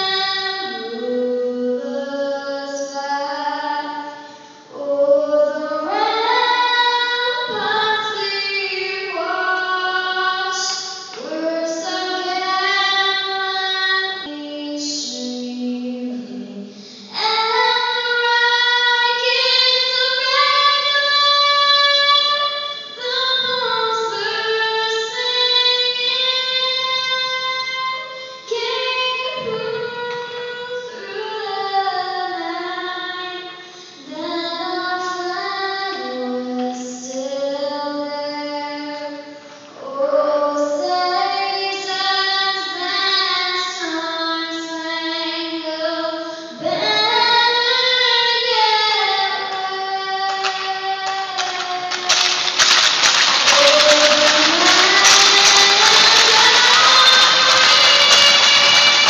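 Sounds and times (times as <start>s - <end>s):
girl singing into a microphone: 0.0s - 52.3s, 53.4s - 59.0s.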